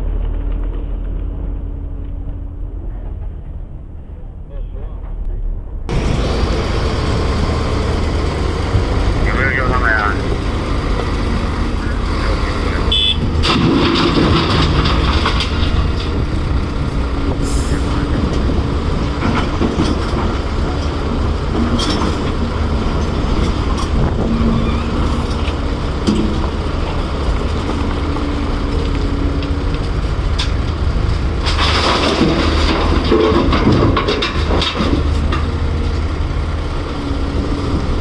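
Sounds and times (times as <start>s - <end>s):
diesel excavator running: 0.0s - 38.0s
grinding noise: 5.6s - 38.0s
rock and steel scraping: 5.9s - 38.0s.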